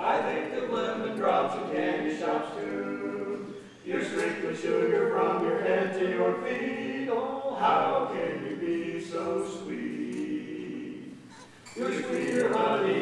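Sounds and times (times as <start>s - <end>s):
vocal quartet singing in harmony: 0.0s - 13.0s.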